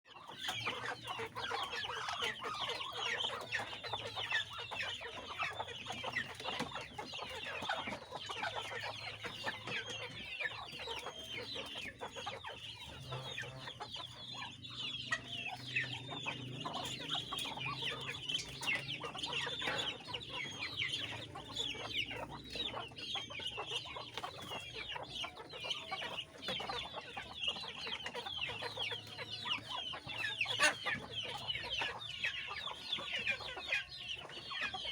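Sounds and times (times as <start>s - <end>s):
poultry clucking and peeping: 0.0s - 34.9s.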